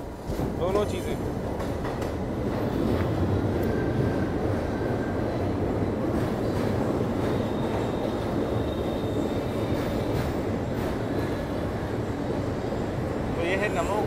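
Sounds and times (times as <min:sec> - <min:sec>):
train wheels rumbling on bridge: 0:00.0 - 0:14.0.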